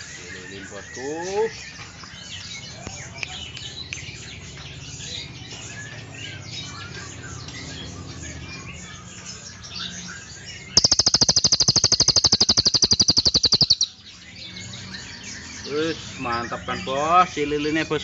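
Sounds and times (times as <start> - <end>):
faint chirping of birds: 0.0 - 18.0.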